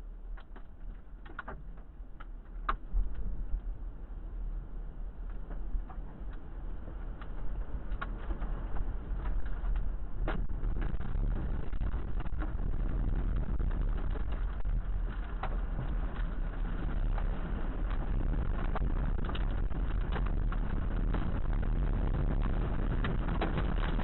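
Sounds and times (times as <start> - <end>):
tornado wind roaring: 2.9 - 24.0.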